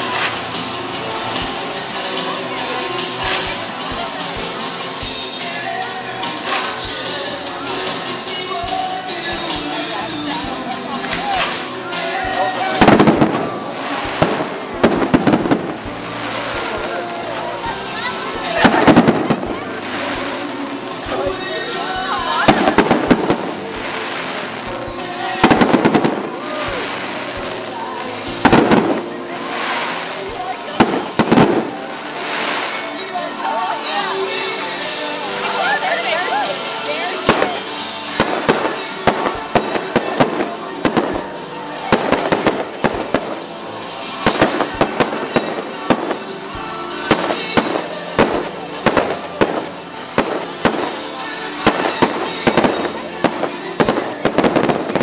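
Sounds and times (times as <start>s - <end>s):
crowd noise: 0.0s - 55.0s
fireworks crackling: 0.0s - 55.0s
music: 0.0s - 55.0s.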